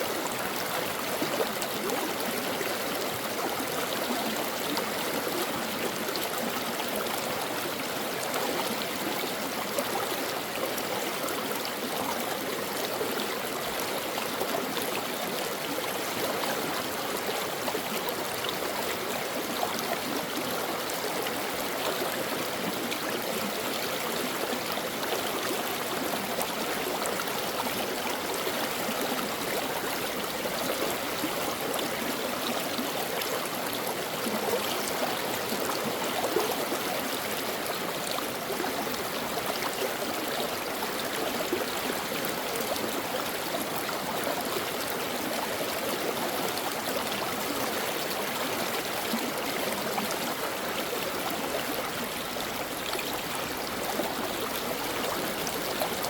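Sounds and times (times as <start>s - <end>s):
stream of water flowing: 0.0s - 56.0s.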